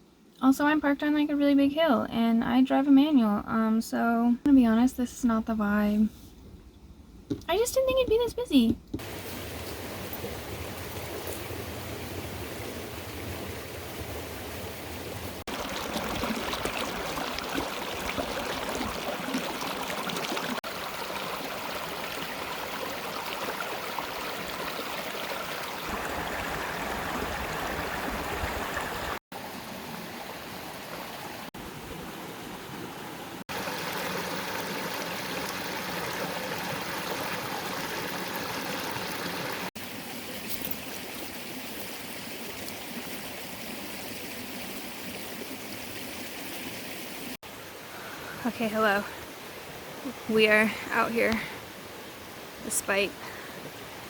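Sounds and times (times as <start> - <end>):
stream running over rocks: 9.0 - 54.0.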